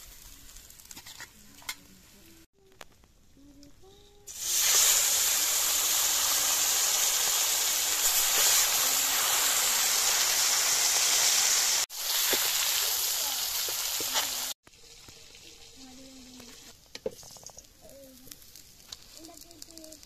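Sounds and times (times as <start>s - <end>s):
fish sizzling in hot oil: 0.0s - 1.7s, 4.3s - 20.0s.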